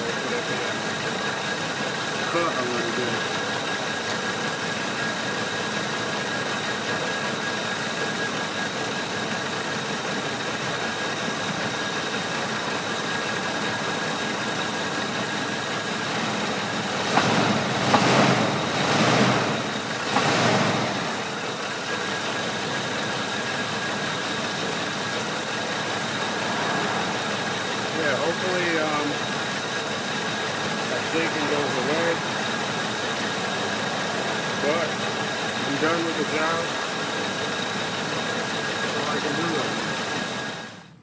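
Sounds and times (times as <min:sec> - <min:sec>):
car engine idling and misfiring: 0:00.0 - 0:41.0.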